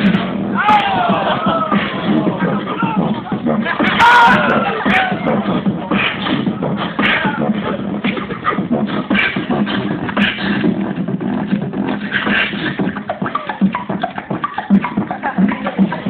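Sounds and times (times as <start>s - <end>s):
beatboxing: 0.0s - 16.0s.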